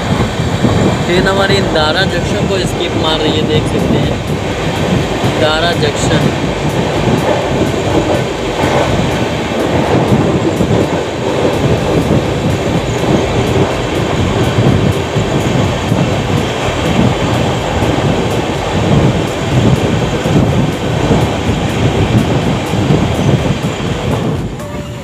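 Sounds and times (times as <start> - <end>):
train wheels running on rails: 0.0 - 25.0.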